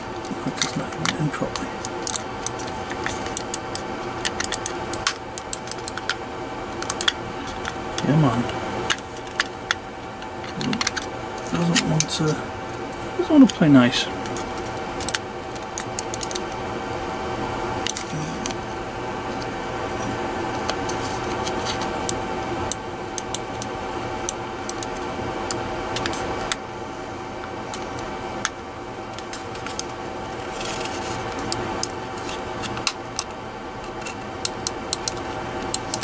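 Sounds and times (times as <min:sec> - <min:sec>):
steady hum: 0:00.0 - 0:36.0.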